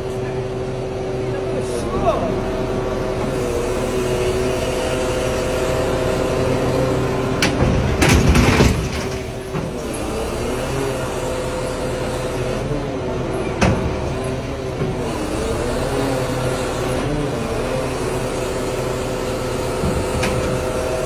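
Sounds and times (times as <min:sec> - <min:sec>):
diesel engine whining: 0:00.0 - 0:21.0.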